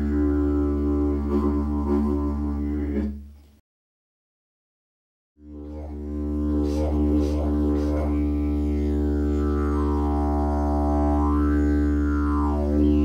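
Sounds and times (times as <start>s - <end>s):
didgeridoo drone: 0.0s - 3.2s, 5.4s - 13.0s.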